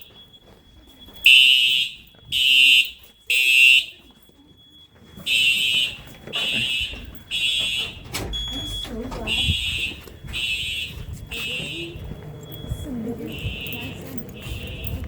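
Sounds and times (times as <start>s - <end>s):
fire alarm horn blasts: 0.0s - 15.0s.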